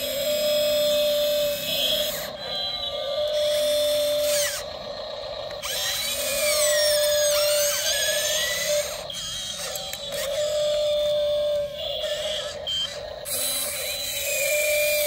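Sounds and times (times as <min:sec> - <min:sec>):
model excavator electric motor whine: 0:00.0 - 0:15.0.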